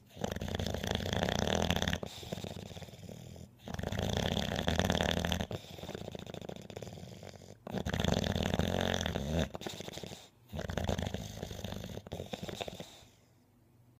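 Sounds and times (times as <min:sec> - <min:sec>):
pet snoring: 0:00.0 - 0:13.3.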